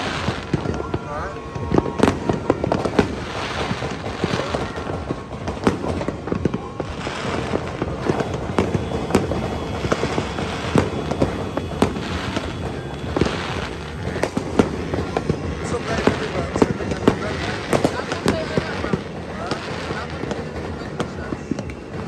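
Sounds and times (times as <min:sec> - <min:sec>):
fireworks bangs and pops: 0:00.0 - 0:22.0
fireworks crackling: 0:00.0 - 0:22.0.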